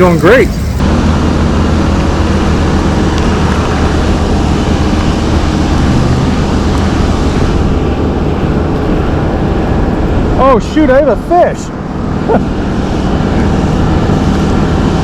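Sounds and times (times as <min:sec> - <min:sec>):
water roaring over a dam: 0:00.8 - 0:15.0.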